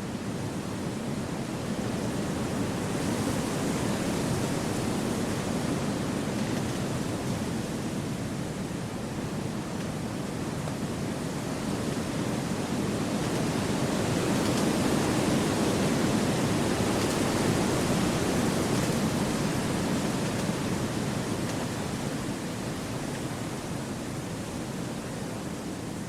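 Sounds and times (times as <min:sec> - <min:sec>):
wind through forest trees: 0:00.0 - 0:26.0.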